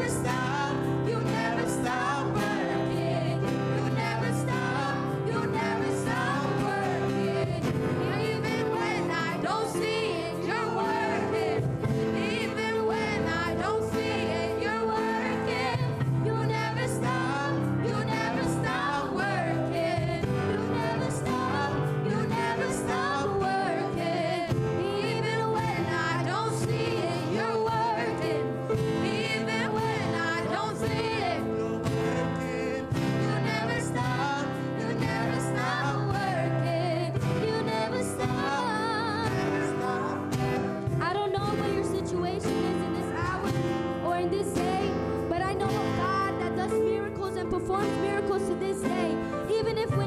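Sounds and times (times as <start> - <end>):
sustained accompaniment: 0.0 - 45.5
person singing: 0.0 - 50.0.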